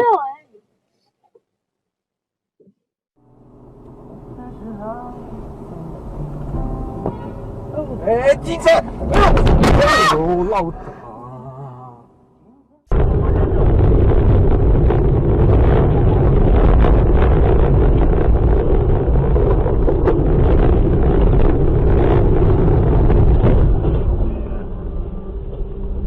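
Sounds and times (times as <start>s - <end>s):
vehicle and wind noise: 3.3s - 11.2s, 12.9s - 26.0s.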